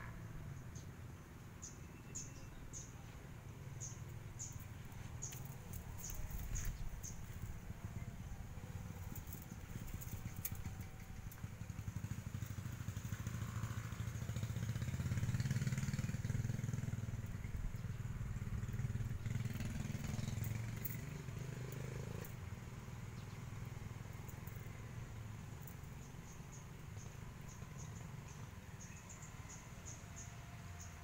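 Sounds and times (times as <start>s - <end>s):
passing vehicle engine rumble: 0.0s - 31.0s.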